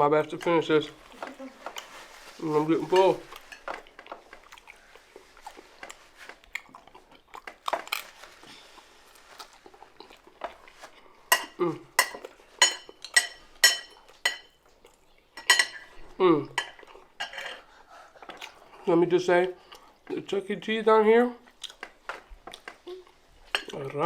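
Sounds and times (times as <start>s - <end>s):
faint chewing: 0.9s - 2.3s, 3.0s - 20.2s, 21.3s - 24.0s.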